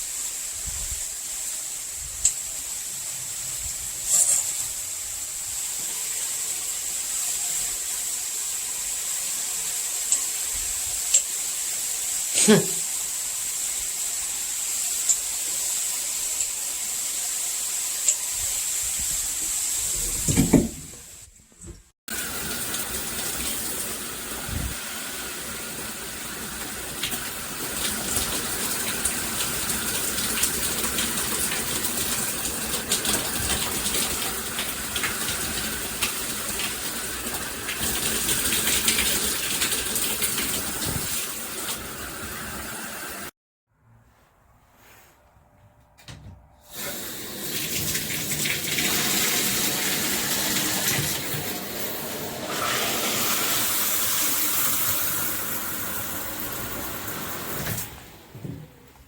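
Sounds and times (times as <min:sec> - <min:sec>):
water spraying from shower head: 0:00.0 - 0:21.3, 0:22.1 - 0:43.3, 0:46.7 - 0:58.1.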